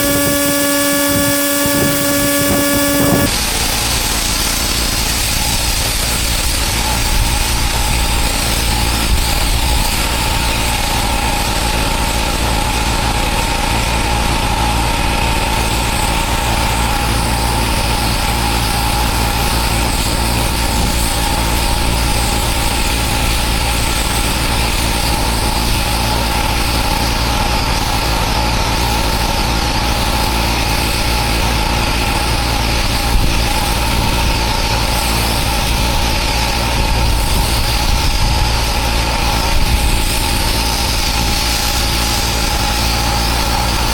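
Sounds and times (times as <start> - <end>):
pressure washer engine running: 0.0 - 43.9.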